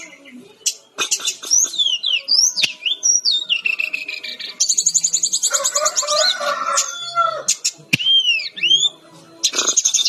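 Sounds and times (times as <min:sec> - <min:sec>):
bird singing: 0:00.0 - 0:10.0.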